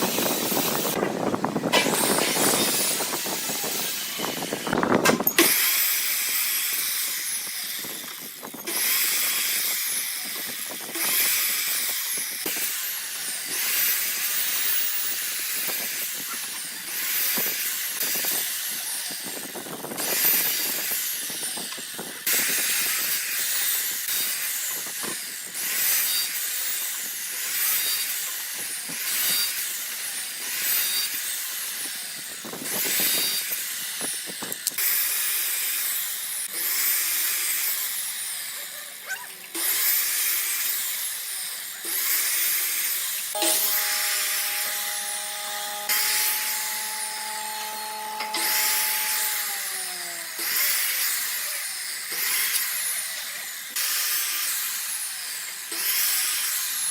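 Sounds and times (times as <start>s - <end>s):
power tool hissing bursts: 0.0s - 56.9s.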